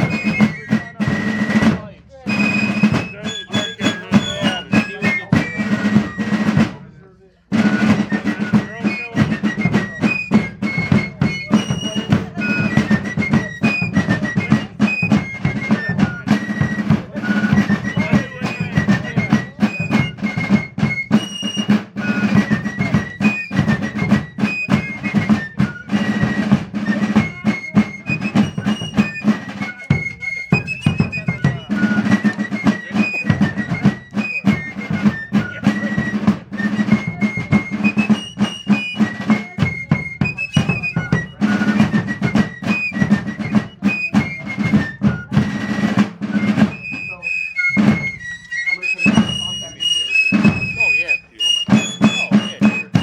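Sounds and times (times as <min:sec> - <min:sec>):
snare drum rolls: 0:00.0 - 0:06.9, 0:07.5 - 0:53.0
shrill fife melody: 0:00.0 - 0:53.0.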